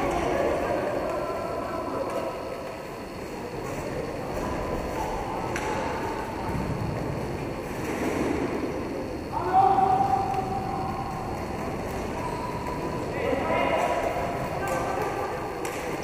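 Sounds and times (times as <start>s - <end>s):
skate wheels rolling: 0.0s - 16.0s.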